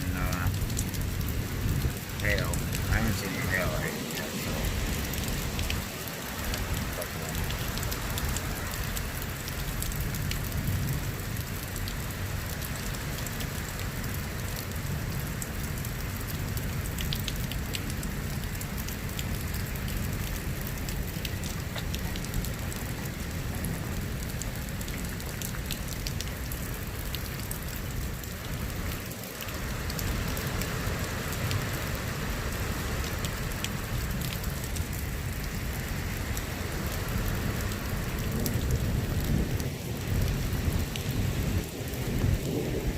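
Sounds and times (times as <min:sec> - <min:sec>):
heavy rain: 0:00.0 - 0:42.9
raindrops ticking on surfaces: 0:00.0 - 0:42.9.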